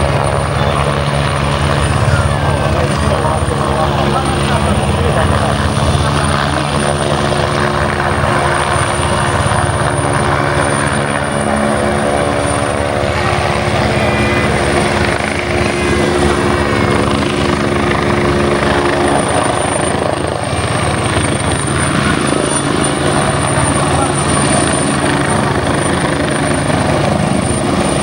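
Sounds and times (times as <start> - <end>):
helicopter hovering: 0.0 - 28.0.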